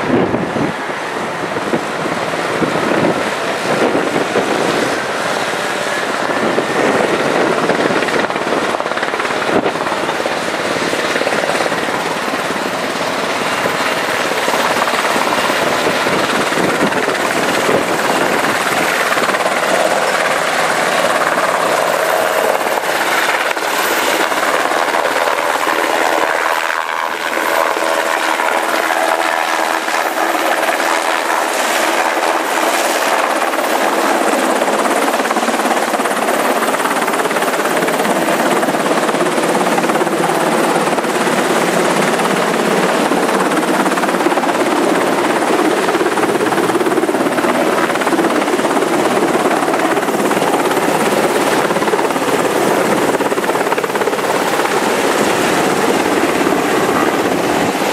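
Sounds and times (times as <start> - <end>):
helicopter rotor and turbine: 0.0 - 57.9
wind: 0.0 - 57.9.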